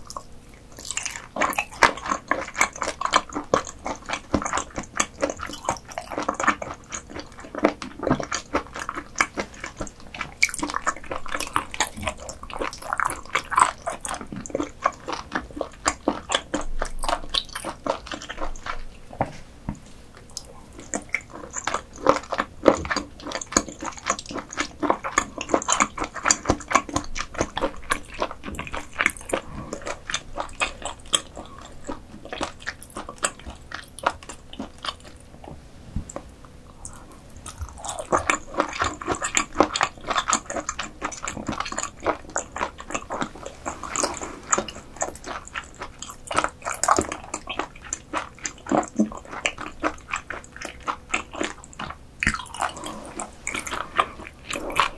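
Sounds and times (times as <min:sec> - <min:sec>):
wet chewing and biting: 0:00.0 - 0:19.2, 0:20.1 - 0:54.9.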